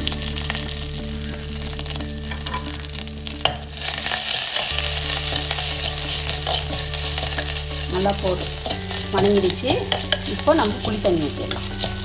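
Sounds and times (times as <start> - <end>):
paste sizzling in hot oil: 0.0 - 12.0
stirring in a clay pot: 0.0 - 12.0.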